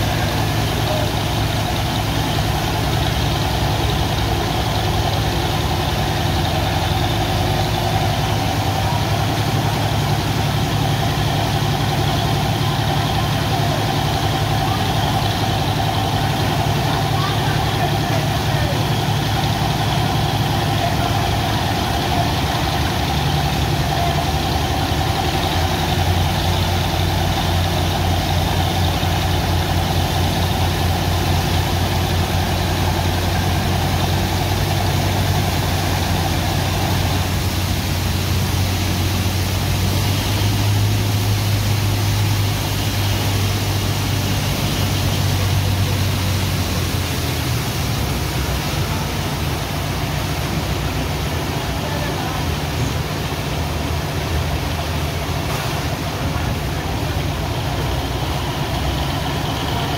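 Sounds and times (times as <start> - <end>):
pump engine low drone: 0.0 - 59.9
water jet rushing: 0.0 - 59.9.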